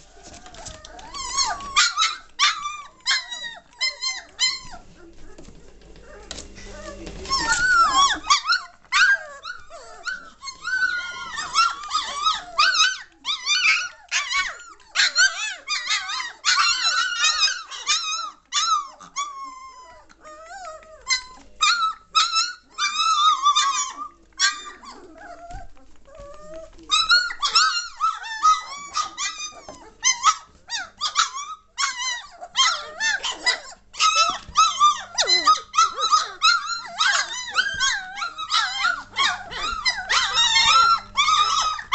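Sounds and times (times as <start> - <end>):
puppies crying: 0.0 - 41.9.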